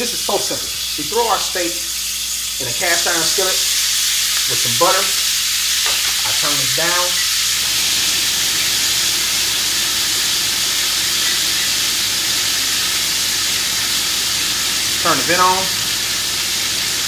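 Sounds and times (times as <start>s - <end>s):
steak sizzling in a skillet: 0.0s - 17.0s.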